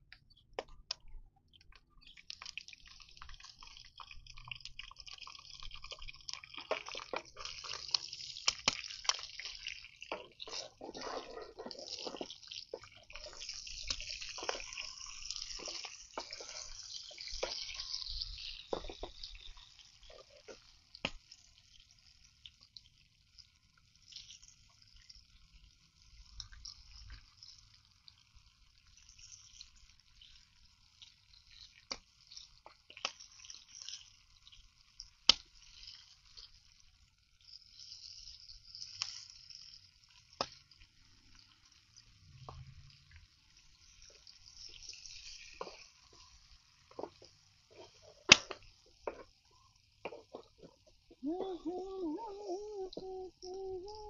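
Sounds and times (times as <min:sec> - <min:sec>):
meat and onions sizzling in a pan: 0:01.5 - 0:54.0.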